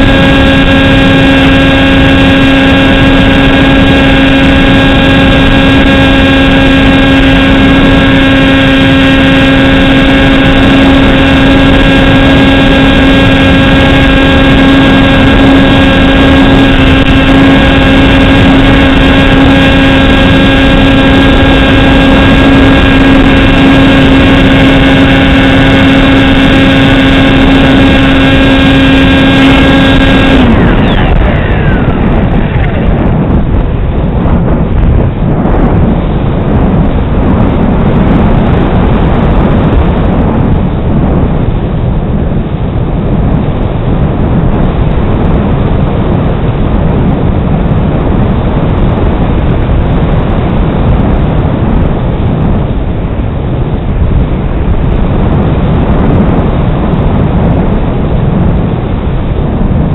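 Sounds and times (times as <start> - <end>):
model aircraft motor droning: 0.0 - 58.5.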